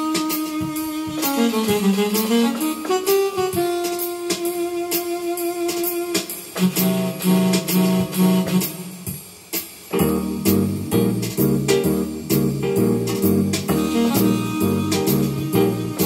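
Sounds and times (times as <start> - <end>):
electronic keyboard playing: 0.0 - 9.1, 9.9 - 16.0
steady drum beat: 0.0 - 16.0.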